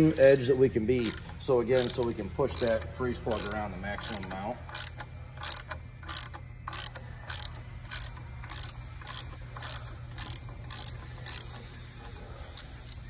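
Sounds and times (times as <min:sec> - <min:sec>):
ratchet clicking: 0:00.0 - 0:13.0.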